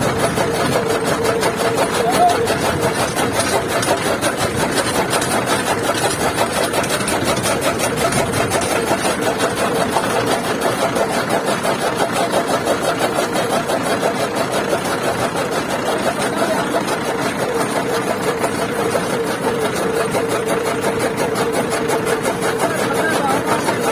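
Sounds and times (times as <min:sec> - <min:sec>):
chaff cutter chopping fodder: 0:00.0 - 0:23.9
tractor diesel engine running: 0:00.0 - 0:23.9.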